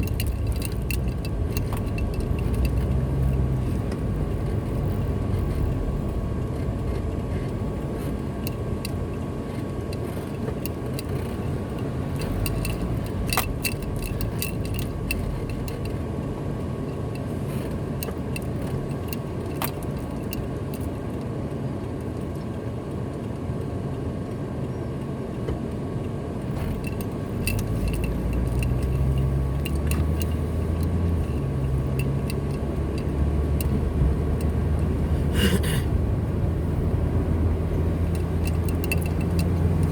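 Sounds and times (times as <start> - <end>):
light clicks and rattles: 0.0 - 21.3, 24.3 - 35.2, 36.6 - 39.9
car engine and tyre rumble: 0.0 - 39.9.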